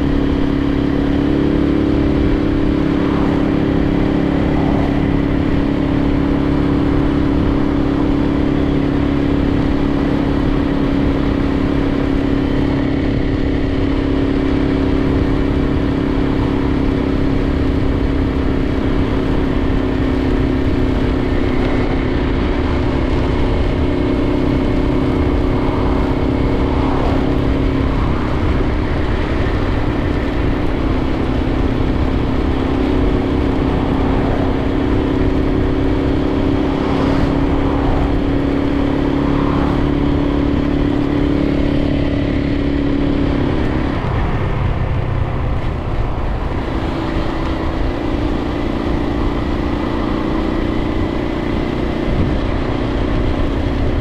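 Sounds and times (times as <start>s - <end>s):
motorcycle engine cruising: 0.0s - 54.0s
road and wind noise: 0.0s - 54.0s.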